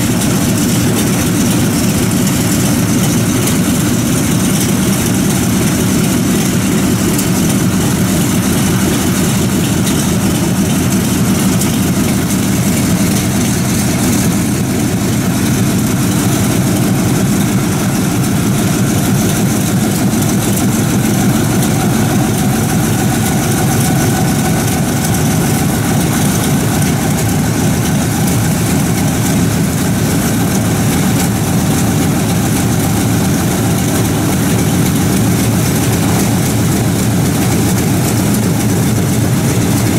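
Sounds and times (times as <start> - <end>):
radial aircraft engine idling: 0.0 - 39.9.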